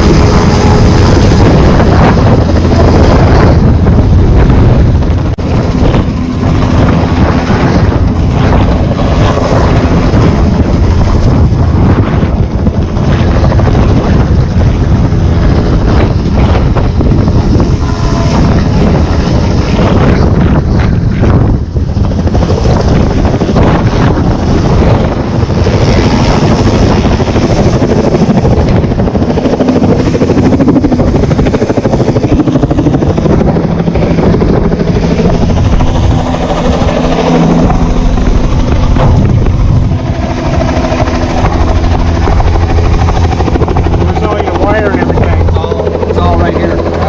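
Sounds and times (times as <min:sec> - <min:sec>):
helicopter running close by: 0:00.0 - 0:47.0.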